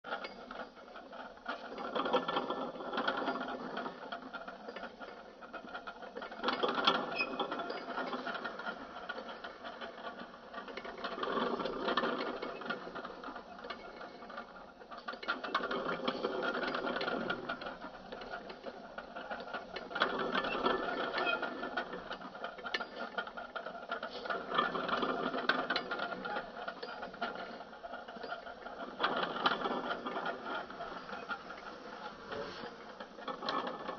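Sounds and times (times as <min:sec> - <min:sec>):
belt and rollers whirring: 0:00.1 - 0:33.9.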